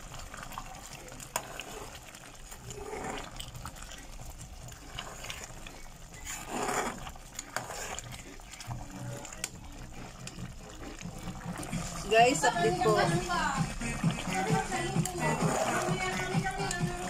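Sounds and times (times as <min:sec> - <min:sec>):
metal spoon stirring liquid: 0:00.0 - 0:17.0
sauce simmering in a pot: 0:00.0 - 0:17.0.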